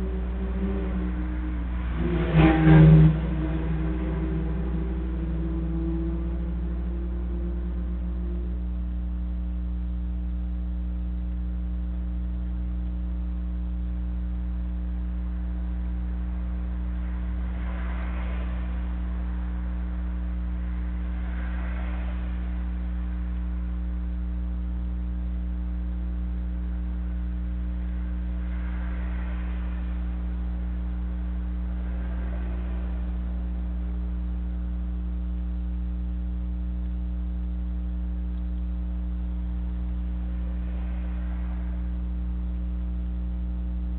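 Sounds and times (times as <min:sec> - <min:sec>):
hiss-like noise swells: 0:00.0 - 0:09.6, 0:15.1 - 0:36.2, 0:38.5 - 0:43.9.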